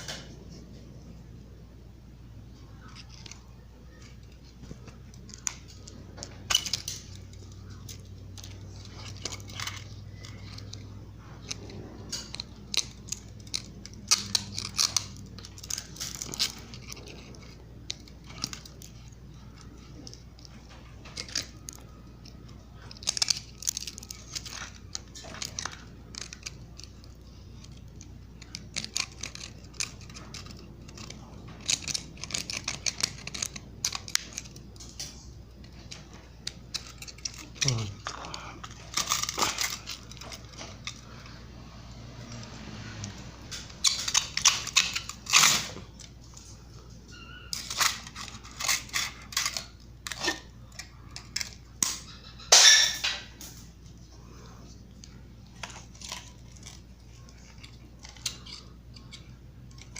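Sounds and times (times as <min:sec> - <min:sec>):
pliers twisting metal wire: 0:02.9 - 0:41.0, 0:42.2 - 0:46.2, 0:47.1 - 0:53.6, 0:55.6 - 0:59.9.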